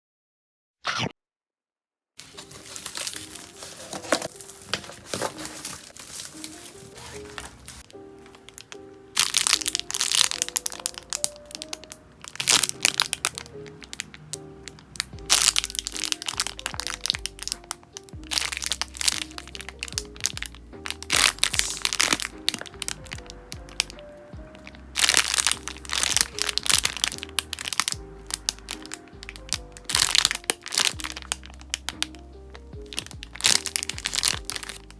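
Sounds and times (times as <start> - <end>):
plastic packaging crinkling: 2.2 - 32.2, 32.8 - 34.9
light background music: 2.2 - 34.9.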